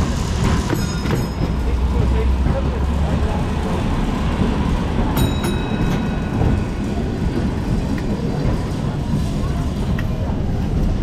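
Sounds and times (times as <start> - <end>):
tram wheels rumbling on rail: 0.0 - 11.0.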